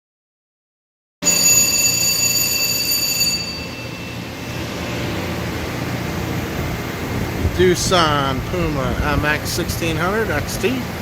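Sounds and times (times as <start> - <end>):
high-pitched steady whines: 1.2 - 11.0
machine-shop hum: 1.2 - 11.0.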